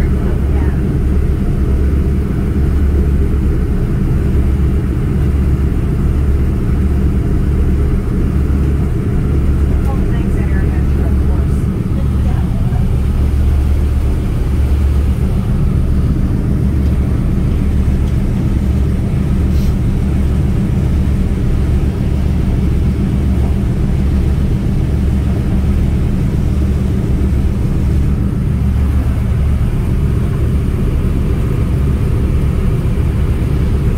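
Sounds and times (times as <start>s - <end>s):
propeller engines droning: 0.0s - 33.9s.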